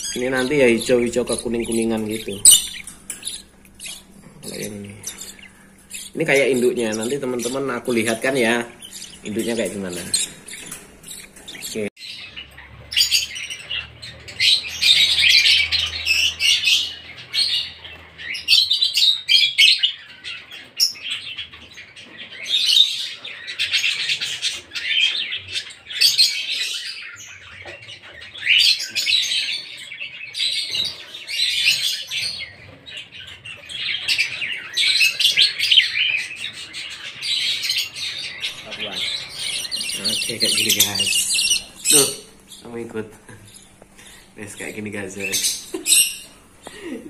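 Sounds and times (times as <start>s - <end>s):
budgerigars chirping and chattering: 0.0s - 47.0s.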